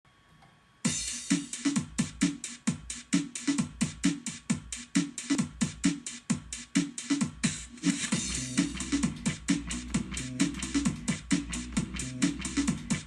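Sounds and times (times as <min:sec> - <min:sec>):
drum machine beat: 0:00.9 - 0:13.0.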